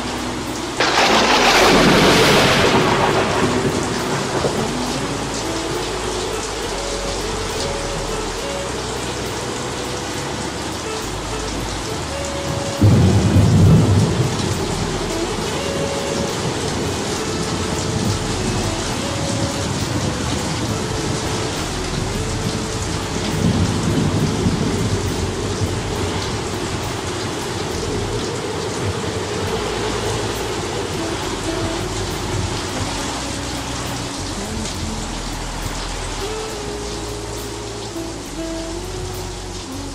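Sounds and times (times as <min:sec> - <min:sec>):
thunder rumbling: 0:00.0 - 0:39.6
heavy rain: 0:00.0 - 0:39.9.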